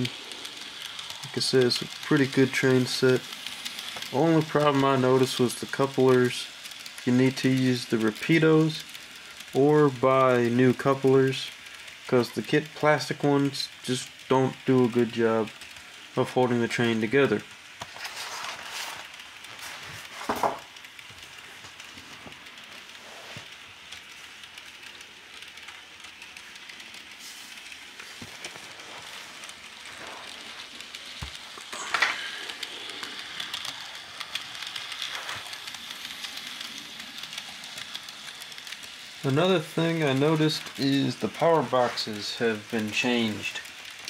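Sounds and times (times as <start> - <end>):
model train running on track: 0.0 - 44.0
small clicks of train wheels: 0.0 - 44.0.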